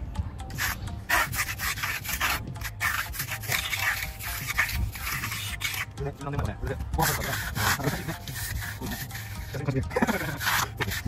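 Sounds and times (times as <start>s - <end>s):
trowel rubbing wet concrete: 0.5s - 6.0s, 7.0s - 11.0s.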